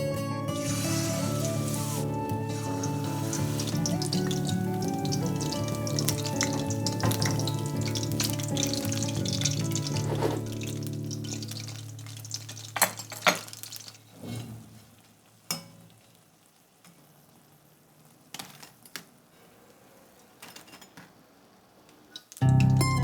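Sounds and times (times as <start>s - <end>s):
oil sizzling: 0.4s - 19.0s, 21.2s - 23.0s.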